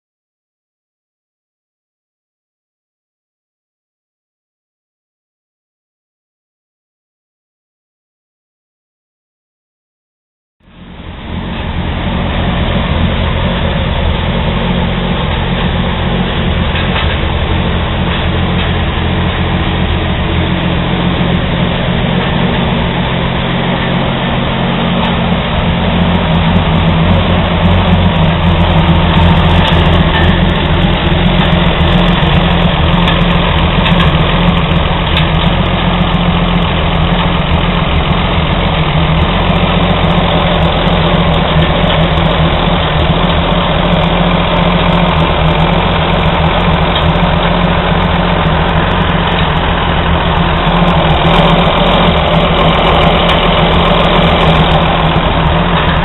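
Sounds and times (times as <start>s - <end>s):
truck engine idling: 10.6s - 56.0s.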